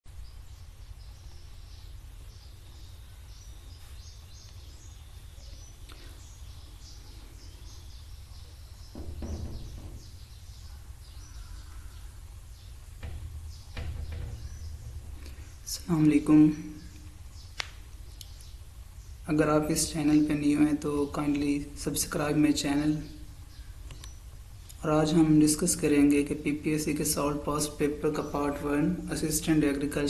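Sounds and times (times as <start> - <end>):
birds chirping: 0.1 - 30.0
steady low hum: 0.1 - 30.0.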